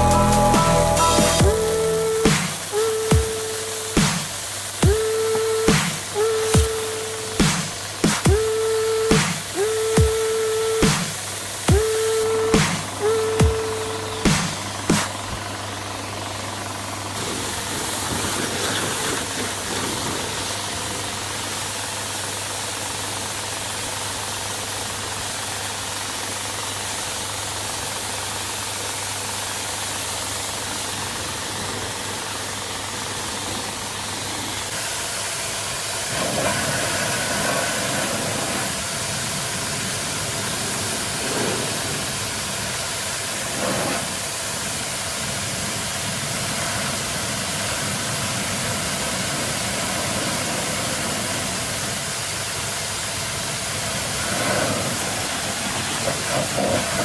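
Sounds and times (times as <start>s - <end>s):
high-pressure water jet hissing: 0.0s - 57.0s
low steady pump hum: 0.0s - 57.0s.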